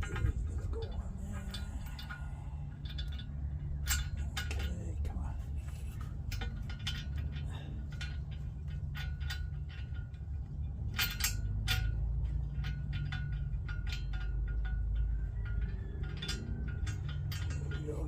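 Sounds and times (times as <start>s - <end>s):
nuts and bolts clinking: 0.0s - 18.0s
steady low hum: 0.0s - 18.0s.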